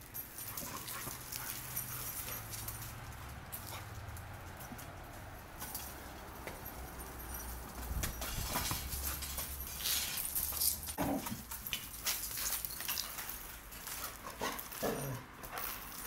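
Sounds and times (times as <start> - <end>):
metal collar chain rattling: 0.0 - 16.0
paws scrabbling on paving: 0.2 - 16.0.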